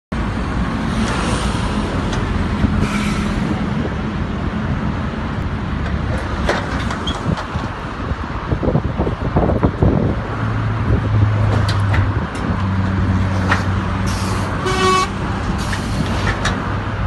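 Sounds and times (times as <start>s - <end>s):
diesel truck engines rumbling: 0.1s - 17.0s
motorway traffic noise: 0.1s - 17.0s.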